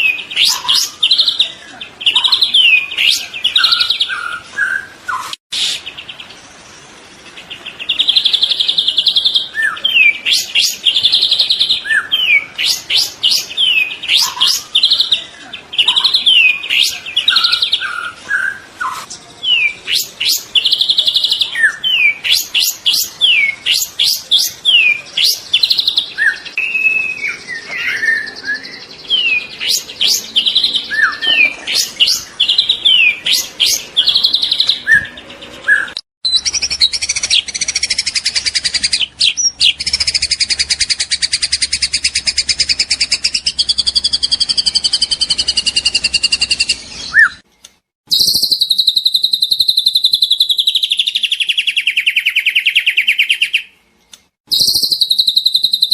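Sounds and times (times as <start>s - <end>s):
bird singing whistled notes and trills: 0.0s - 55.9s.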